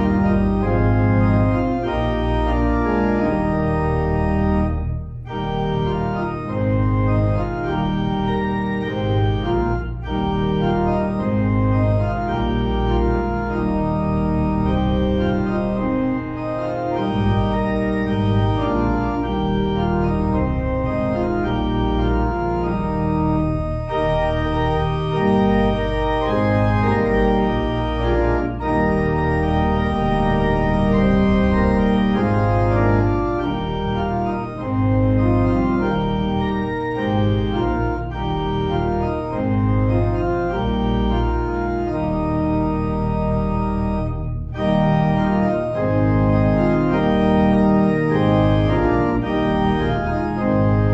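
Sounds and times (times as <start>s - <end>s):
organ playing sustained chords: 0.0s - 50.9s.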